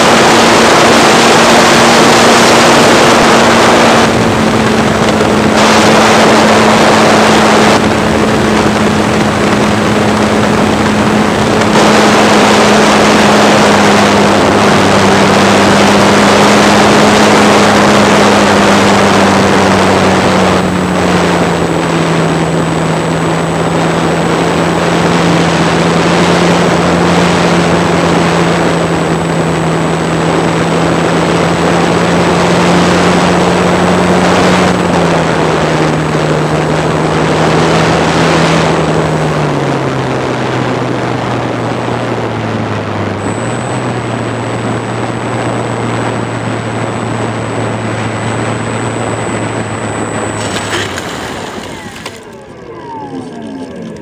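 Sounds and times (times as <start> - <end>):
model airplane propeller drone: 0.0 - 54.0
wind rush: 0.0 - 54.0.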